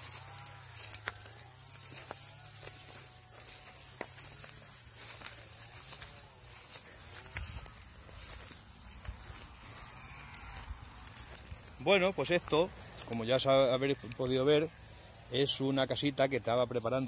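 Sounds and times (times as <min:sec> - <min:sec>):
dry stalks snapping: 0:00.0 - 0:14.4
footsteps through dry grass: 0:00.0 - 0:17.0.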